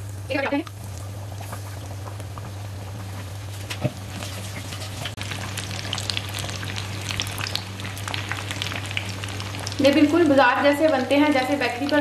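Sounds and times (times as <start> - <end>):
oil popping crackles: 0.0 - 12.0
patties deep-frying in oil: 0.0 - 12.0.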